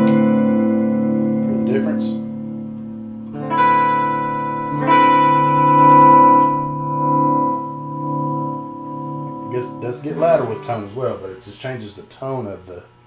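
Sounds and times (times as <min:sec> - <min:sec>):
electric guitar chords ringing: 0:00.0 - 0:11.5.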